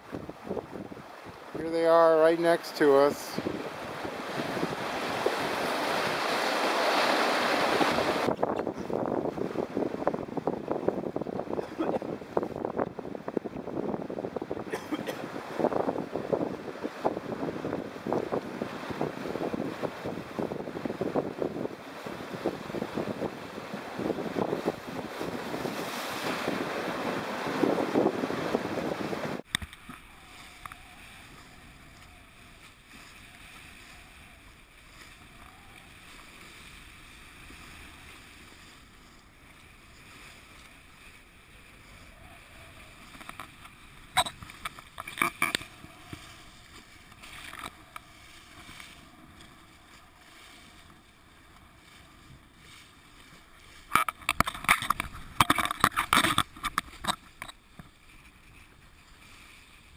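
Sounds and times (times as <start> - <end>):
water rushing along boat hull: 0.0 - 59.9
waves slapping bow with spray: 0.0 - 59.9.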